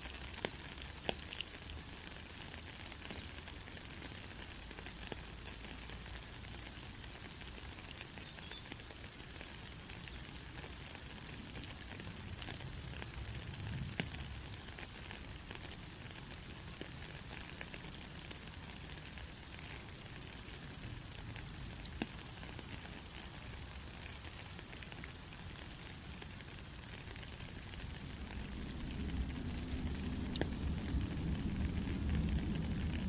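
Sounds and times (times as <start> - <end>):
white noise hiss: 0.0 - 33.0.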